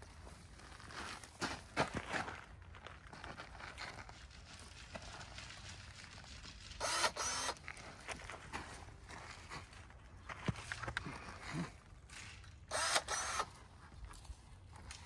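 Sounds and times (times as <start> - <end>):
twigs and leaves rustling: 0.0 - 12.7, 13.5 - 15.0.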